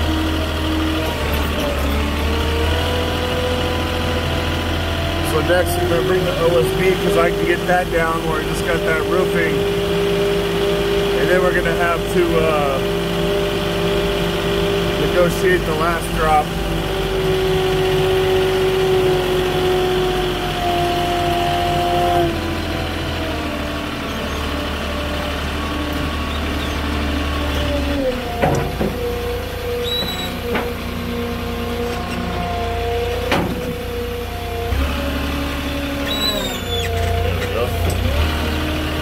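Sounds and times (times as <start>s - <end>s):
forklift engine running: 0.0s - 39.0s.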